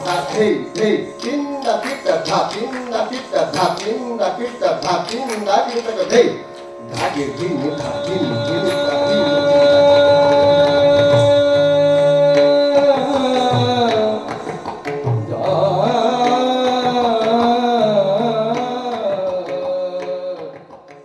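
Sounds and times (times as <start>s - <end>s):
ornamented singing voice: 0.0s - 20.8s.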